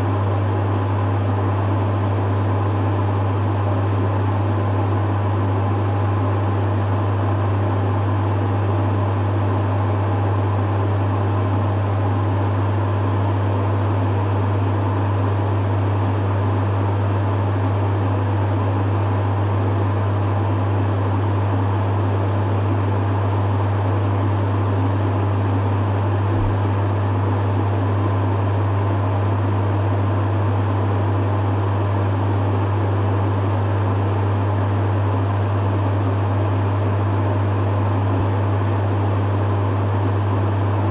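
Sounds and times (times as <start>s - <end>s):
dehumidifier compressor hum: 0.0s - 40.9s
dehumidifier fan rush: 0.0s - 40.9s.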